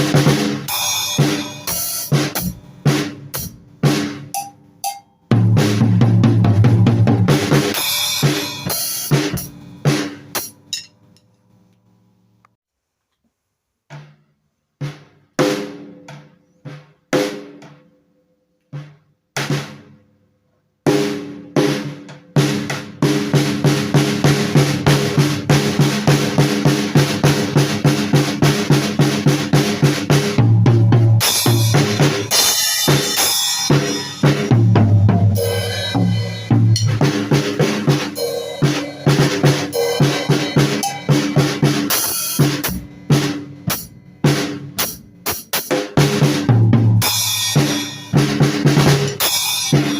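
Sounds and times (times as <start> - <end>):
drum kit playing: 0.0 - 11.2, 14.8 - 17.9, 18.7 - 20.0, 20.8 - 49.9.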